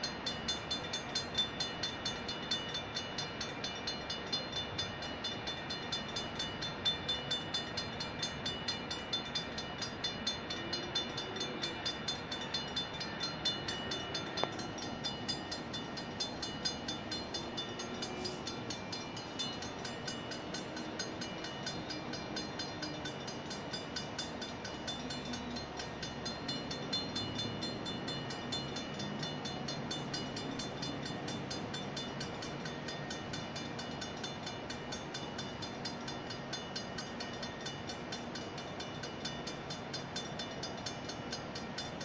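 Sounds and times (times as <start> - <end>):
crossing warning bell ringing: 0.0 - 42.0
freight train wheels rumbling: 0.0 - 42.0.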